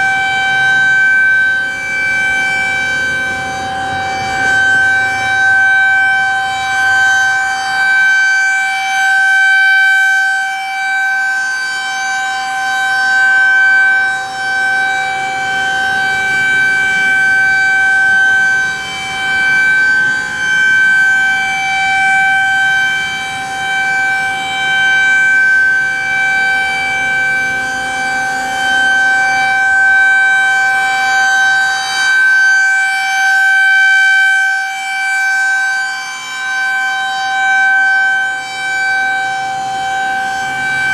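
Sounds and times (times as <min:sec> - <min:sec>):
outdoor warning siren steady tone: 0:00.0 - 0:40.9.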